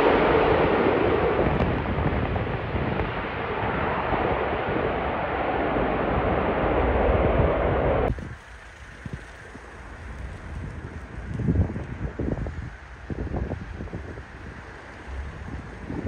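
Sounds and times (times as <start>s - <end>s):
jet airliner roar: 0.0s - 16.0s.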